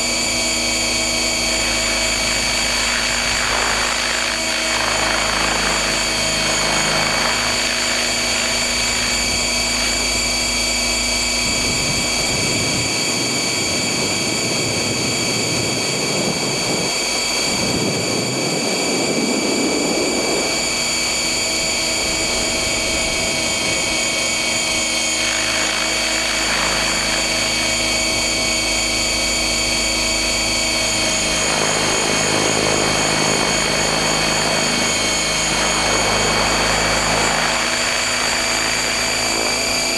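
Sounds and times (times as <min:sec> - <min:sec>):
rc helicopter motor whine: 0:00.0 - 0:39.9
rotor hum: 0:00.0 - 0:39.9.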